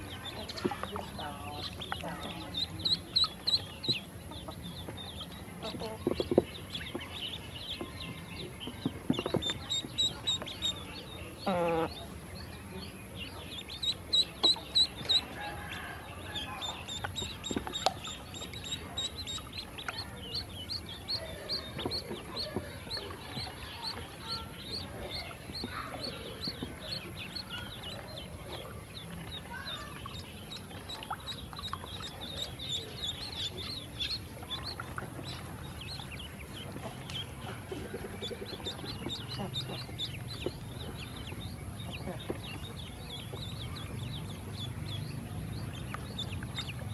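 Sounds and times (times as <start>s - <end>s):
ducklings peeping: 0.0s - 46.9s.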